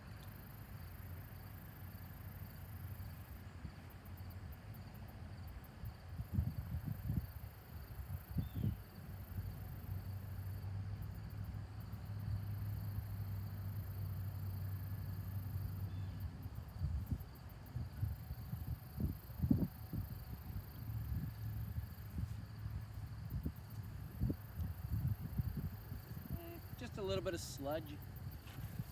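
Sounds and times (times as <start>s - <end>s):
insects chirping in high trills: 0.0s - 28.9s.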